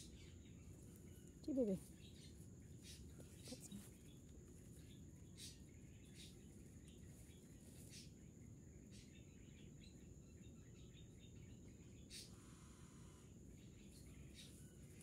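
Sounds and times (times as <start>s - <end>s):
faint chirps: 0.0s - 15.0s.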